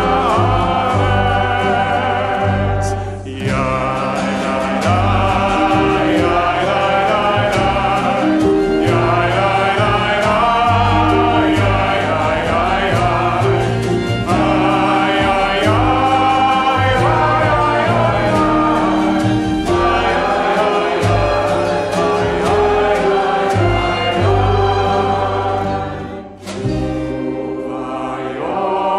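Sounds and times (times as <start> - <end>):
plucked upright bass: 0.0 - 28.0
congregation and cantor singing: 0.0 - 28.9.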